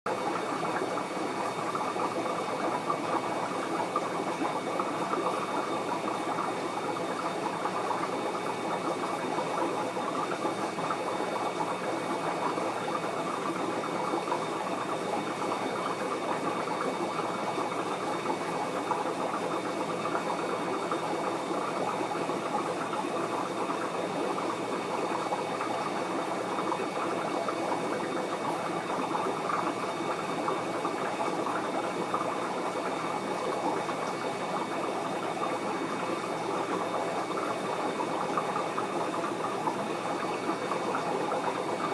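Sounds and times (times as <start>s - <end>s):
aquarium water flowing: 0.1s - 41.9s.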